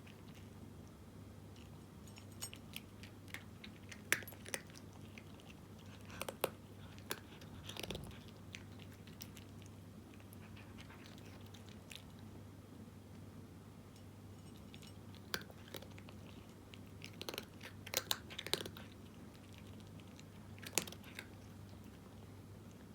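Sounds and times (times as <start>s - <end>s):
cat crunching dry kibble: 1.5s - 12.3s, 14.4s - 22.9s.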